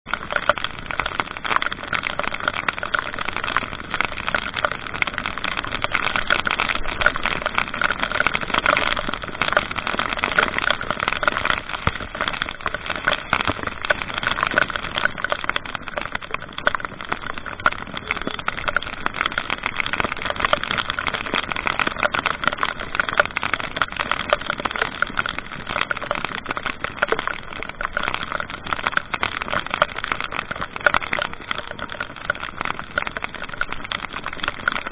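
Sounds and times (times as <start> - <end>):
dense crackle of small clicks: 0.0 - 34.9.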